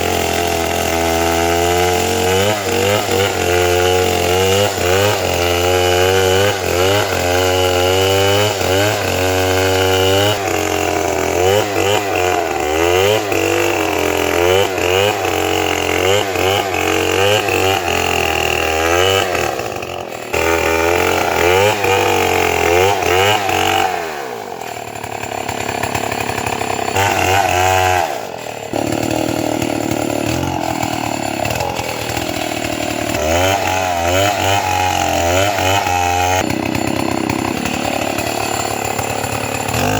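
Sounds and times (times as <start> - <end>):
chainsaw revving while cutting: 0.0 - 39.9.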